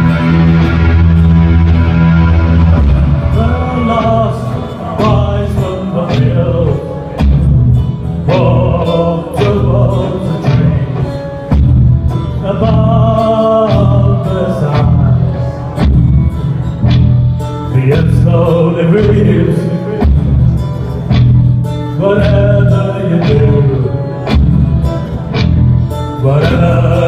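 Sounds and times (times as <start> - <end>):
live band playing: 0.0 - 27.0.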